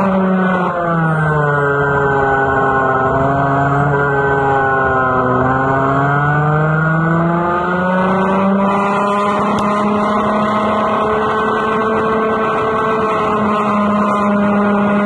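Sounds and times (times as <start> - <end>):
go-kart engine at high revs: 0.0 - 15.0.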